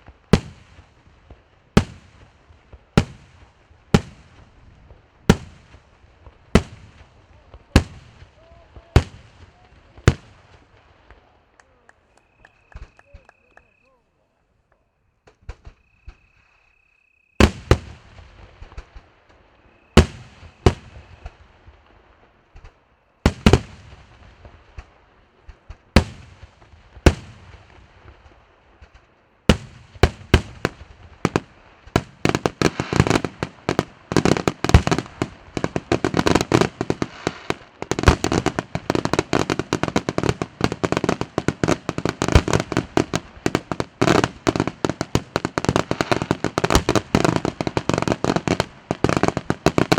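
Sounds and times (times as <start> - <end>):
rapid firework bangs and crackling: 0.0 - 13.7, 17.4 - 49.9.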